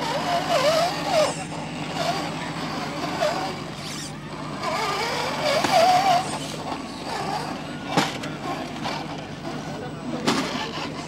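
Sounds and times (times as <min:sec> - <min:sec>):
electric motor whine: 0:00.0 - 0:09.9
steady low hum: 0:00.0 - 0:11.0.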